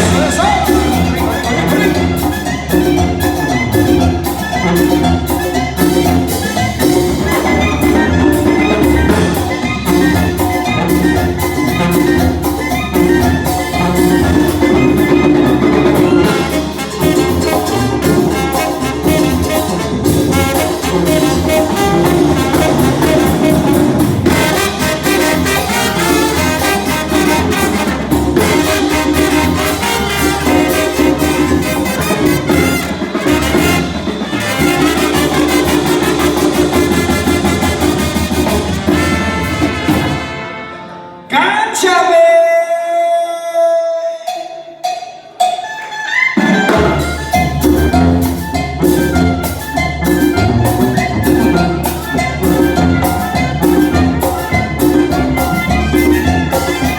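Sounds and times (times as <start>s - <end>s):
steady percussion beat: 0.0s - 40.8s, 44.2s - 56.9s
brass band playing: 0.0s - 41.6s, 45.4s - 56.9s.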